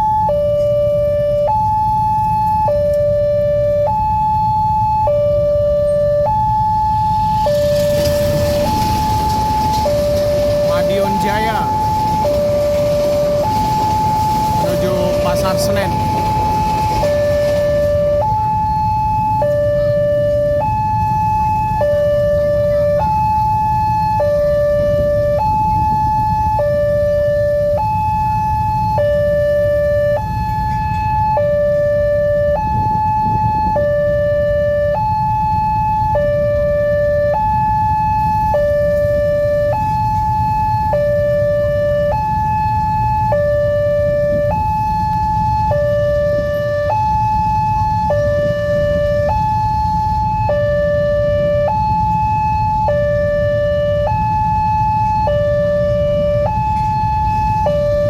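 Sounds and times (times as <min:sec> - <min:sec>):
two-tone crossing alarm: 0:00.0 - 0:58.0.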